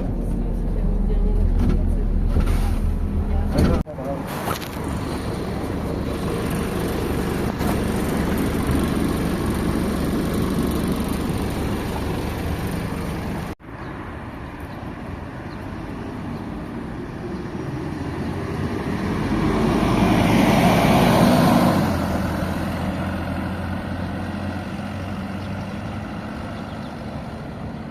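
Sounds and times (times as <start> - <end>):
bus engine drone: 0.0 - 27.9
road noise: 0.0 - 27.9.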